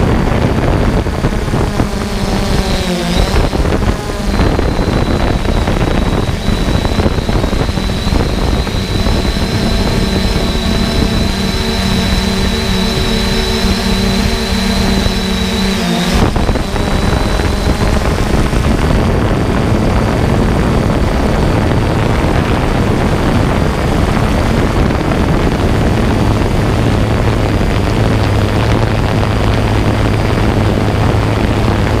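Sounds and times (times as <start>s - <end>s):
drone propellers whirring: 0.0s - 32.0s.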